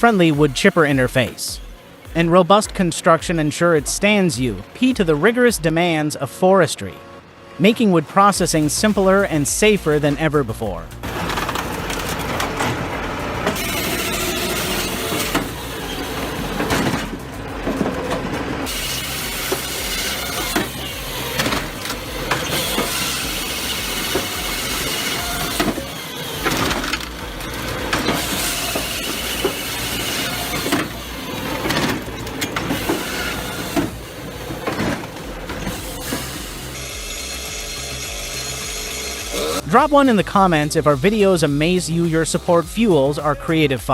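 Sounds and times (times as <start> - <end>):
engine and hydraulic noise: 0.0 - 42.7.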